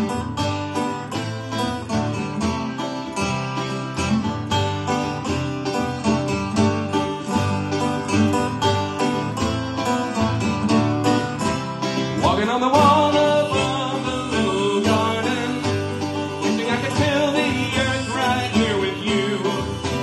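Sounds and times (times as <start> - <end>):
acoustic guitar: 0.0 - 20.0
banjo: 0.0 - 20.0
harmonica melody: 0.0 - 20.0.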